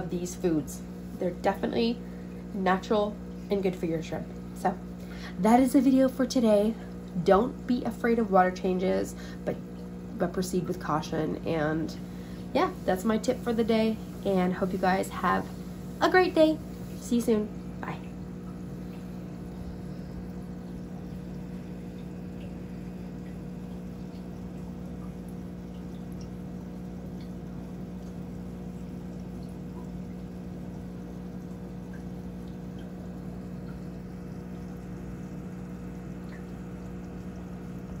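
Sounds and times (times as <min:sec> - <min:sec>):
aquarium filter humming: 0:00.0 - 0:38.0
water trickling: 0:00.0 - 0:38.0.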